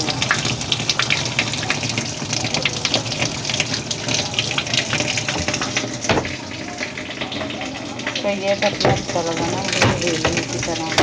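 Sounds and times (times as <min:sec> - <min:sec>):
water pouring into tub: 0:00.0 - 0:11.0.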